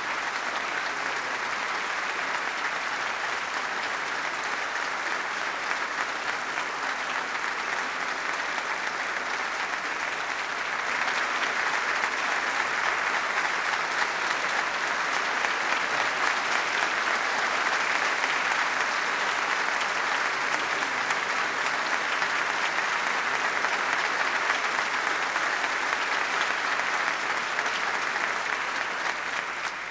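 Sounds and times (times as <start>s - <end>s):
large audience applauding: 0.0s - 29.9s.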